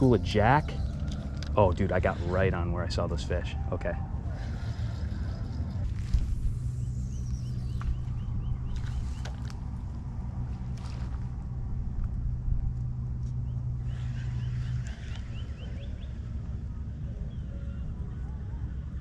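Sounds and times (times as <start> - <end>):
low motor drone: 0.0 - 19.0.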